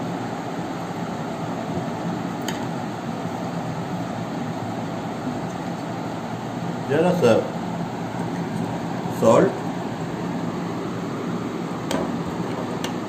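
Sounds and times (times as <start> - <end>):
mechanical appliance hum and hiss: 0.0 - 13.0.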